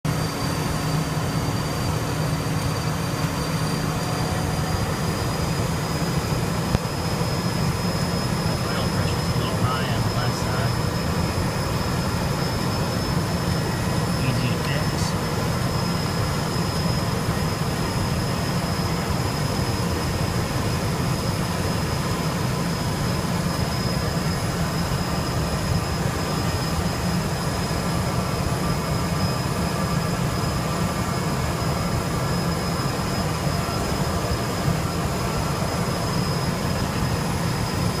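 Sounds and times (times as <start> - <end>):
high jet engine whine: 0.0 - 38.0
jet engines roaring: 0.1 - 38.0.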